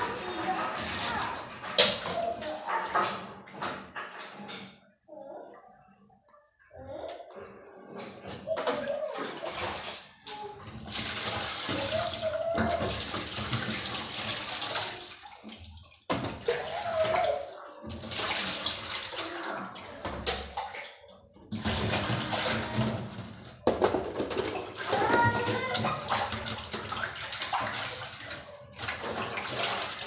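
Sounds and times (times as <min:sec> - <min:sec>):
plastic container being rinsed: 0:00.0 - 0:04.7, 0:08.3 - 0:30.0
tap water splashing into metal sink: 0:00.0 - 0:04.7, 0:08.5 - 0:30.0.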